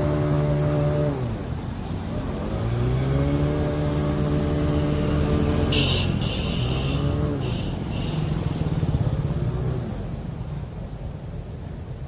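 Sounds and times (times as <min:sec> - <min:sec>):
motorcycle approaching: 0:00.0 - 0:10.1
motorcycle passing through water: 0:00.0 - 0:10.4.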